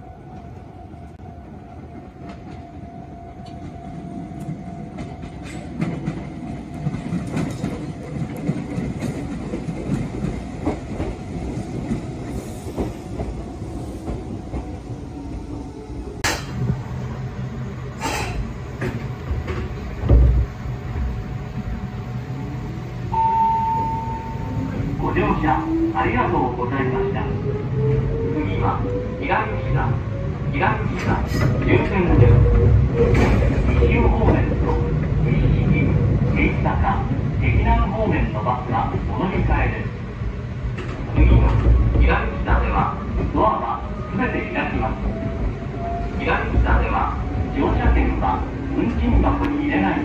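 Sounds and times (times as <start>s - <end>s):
electric train over rail joints: 0.0s - 50.0s.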